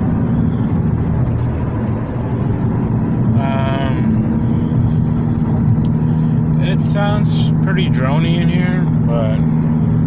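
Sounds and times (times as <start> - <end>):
drony exhaust and engine hum: 0.0 - 10.0.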